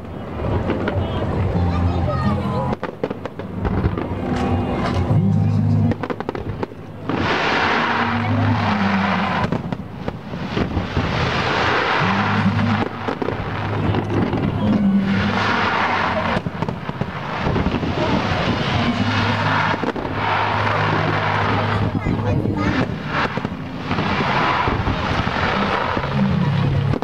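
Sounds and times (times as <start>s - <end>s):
fireworks bursting and crackling: 0.0s - 27.0s
music over loudspeakers: 1.3s - 27.0s.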